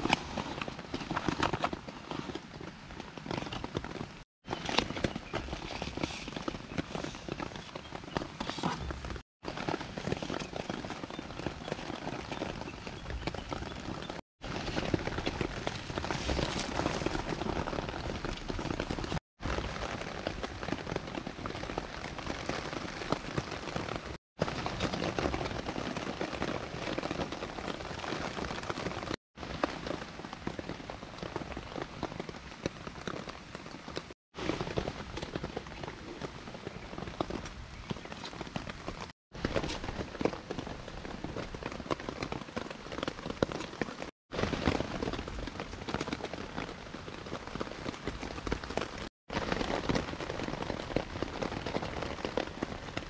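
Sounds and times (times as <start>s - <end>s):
rain pattering on a tarp: 0.0s - 53.0s.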